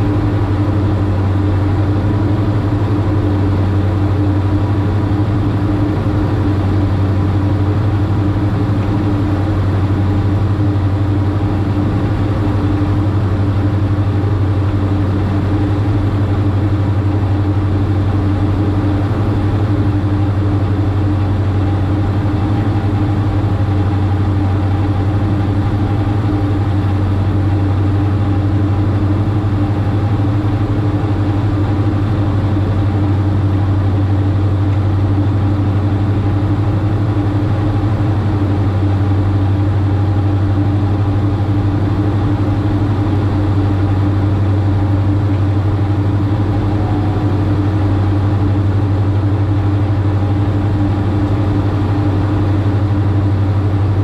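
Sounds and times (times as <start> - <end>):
aircraft engines droning: 0.0 - 54.0.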